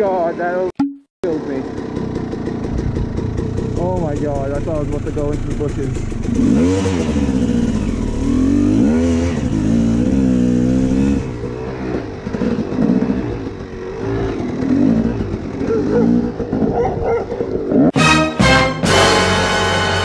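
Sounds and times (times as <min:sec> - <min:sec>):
dirt bike engine revving: 0:01.3 - 0:18.0.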